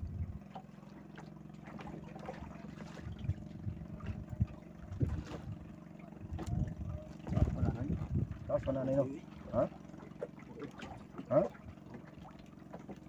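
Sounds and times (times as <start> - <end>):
boat engine idling: 0.0 - 13.0
water splashing against hull: 0.0 - 13.0.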